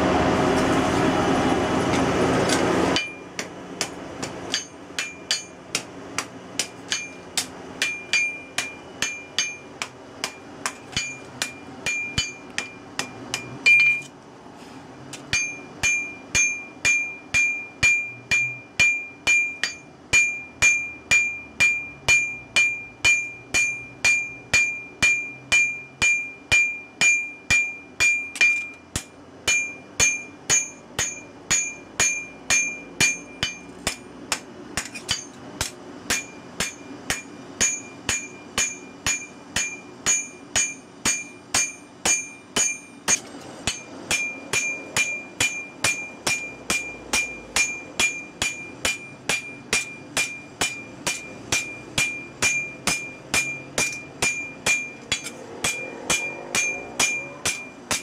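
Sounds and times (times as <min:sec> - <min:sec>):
hammer on anvil ringing: 0:03.0 - 0:14.1, 0:15.3 - 0:58.0.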